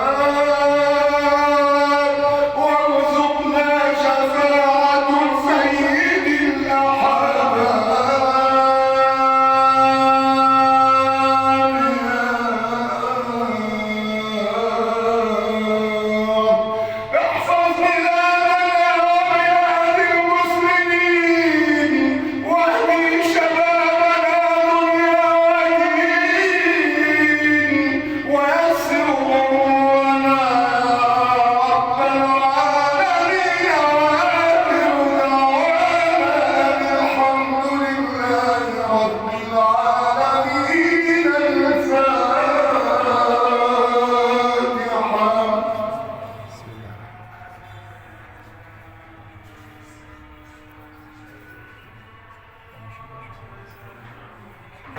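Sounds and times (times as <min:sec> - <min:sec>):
man chanting melodic held notes: 0:00.0 - 0:54.9.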